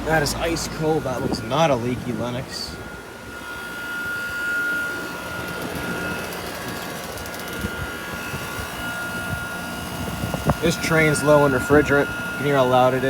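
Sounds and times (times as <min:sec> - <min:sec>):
air conditioner unit running: 0:00.0 - 0:13.0
high whine: 0:00.0 - 0:13.0.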